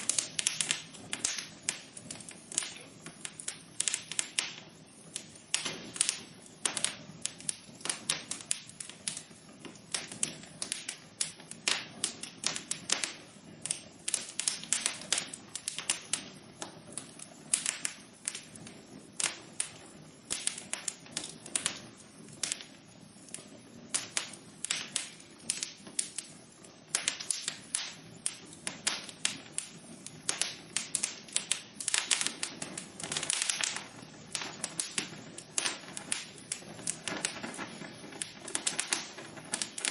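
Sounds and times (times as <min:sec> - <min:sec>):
hiss of flames: 0:00.0 - 0:39.9
wood fire crackling: 0:00.0 - 0:39.9.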